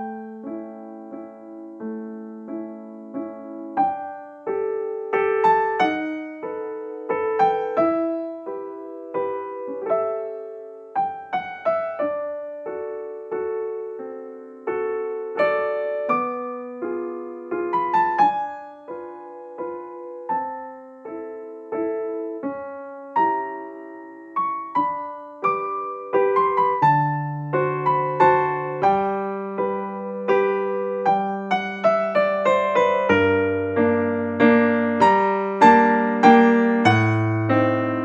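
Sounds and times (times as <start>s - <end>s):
solo piano music: 0.0s - 38.0s.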